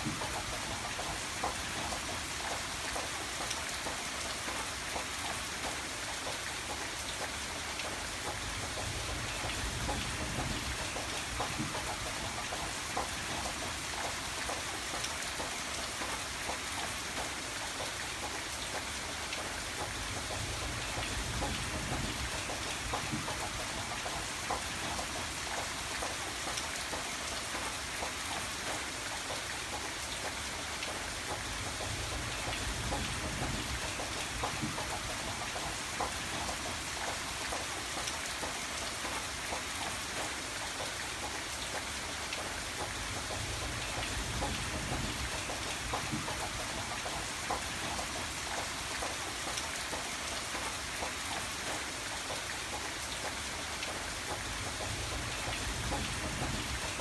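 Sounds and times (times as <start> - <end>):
rain patter on a surface: 0.0 - 57.0.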